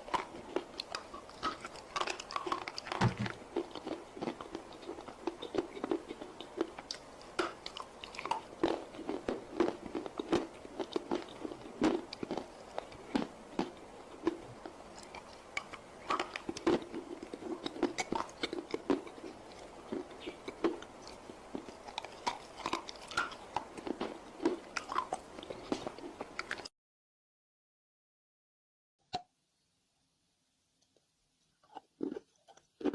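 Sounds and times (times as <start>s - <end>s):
dry clay being chewed: 0.0s - 26.7s, 31.5s - 32.9s.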